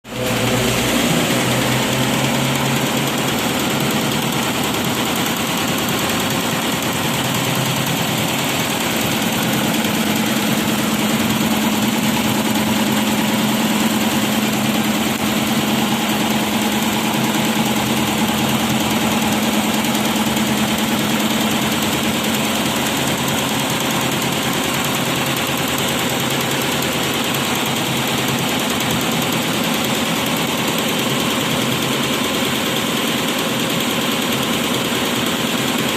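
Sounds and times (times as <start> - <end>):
embroidery machine clattering: 0.2 - 35.9.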